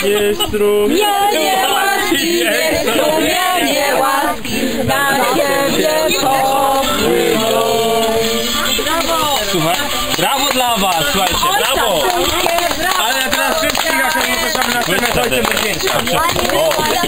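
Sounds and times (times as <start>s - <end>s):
voices singing over music: 0.0s - 17.0s.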